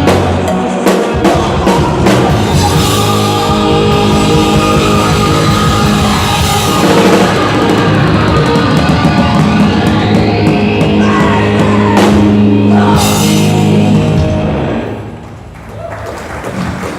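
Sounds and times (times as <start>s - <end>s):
live rock band: 0.0s - 15.5s
drum fills: 0.0s - 16.9s.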